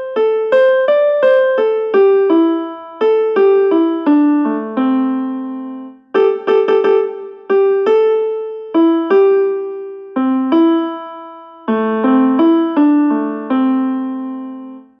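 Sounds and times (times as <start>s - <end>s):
ringtone melody in piano notes: 0.0s - 15.0s.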